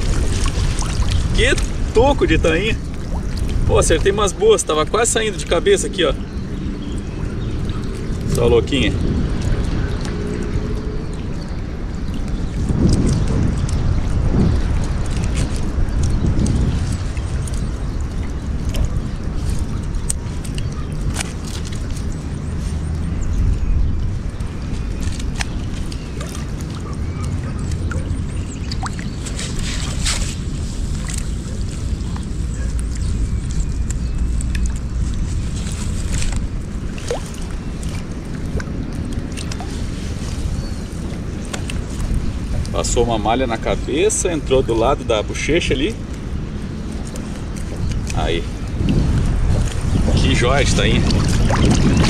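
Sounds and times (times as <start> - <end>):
wind rumbling on microphone: 0.0 - 52.0.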